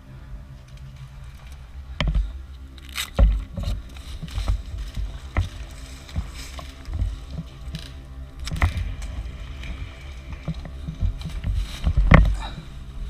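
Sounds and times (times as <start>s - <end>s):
faint steady hum: 0.0s - 13.0s
knocks and thumps of gear handling: 2.0s - 12.6s.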